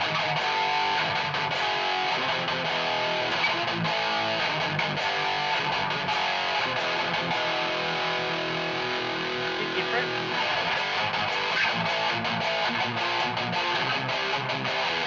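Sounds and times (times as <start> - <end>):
distorted electric guitar riffing: 0.0 - 15.0.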